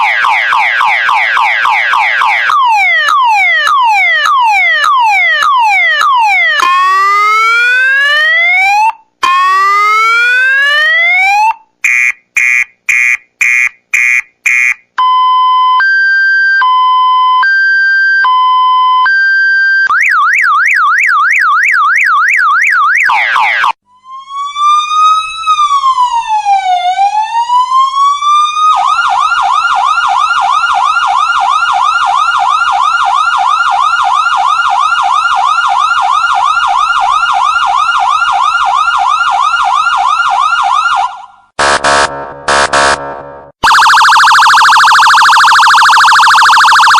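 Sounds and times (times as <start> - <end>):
electronic emergency siren effects: 0.0 - 46.9.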